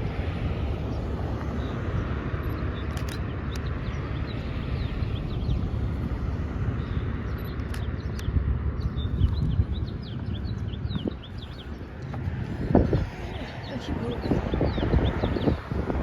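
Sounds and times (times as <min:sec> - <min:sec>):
small birds chirping: 0:00.0 - 0:16.0
wind buffeting microphone: 0:00.0 - 0:16.0.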